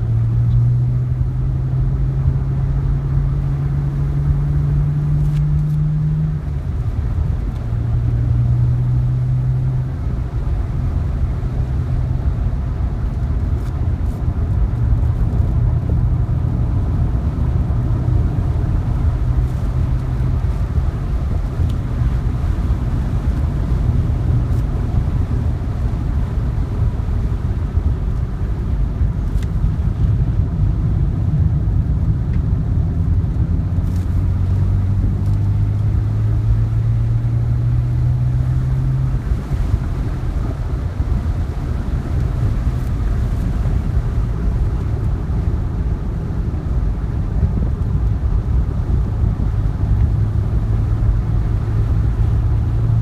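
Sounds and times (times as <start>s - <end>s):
car engine from inside cabin: 0.0s - 53.0s
road and wind noise rumble: 0.0s - 53.0s.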